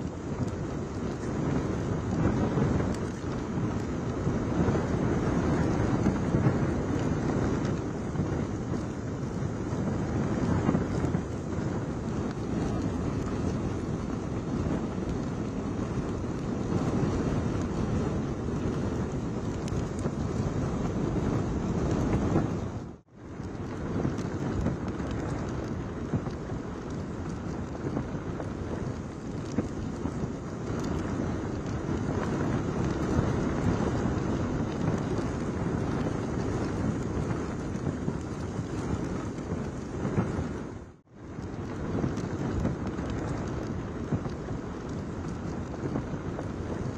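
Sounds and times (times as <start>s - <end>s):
rain falling on water: 0.0s - 46.9s
wind buffeting microphone: 0.0s - 46.9s.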